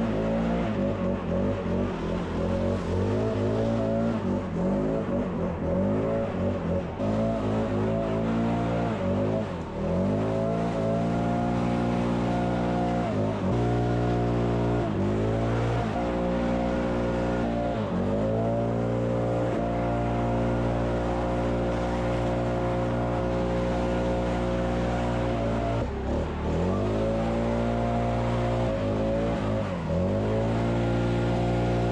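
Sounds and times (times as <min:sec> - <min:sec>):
small petrol engine revving: 0:00.0 - 0:31.9.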